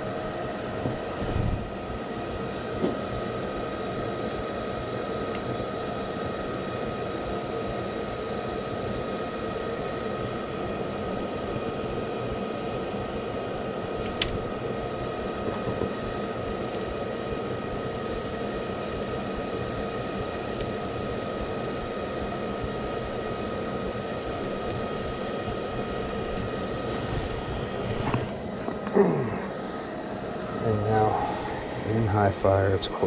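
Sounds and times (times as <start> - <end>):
gas furnace running: 0.0 - 33.0.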